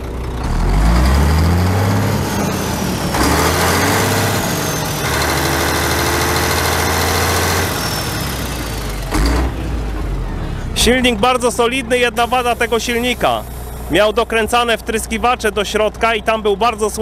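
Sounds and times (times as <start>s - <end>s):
truck diesel engine revving: 0.0s - 17.0s.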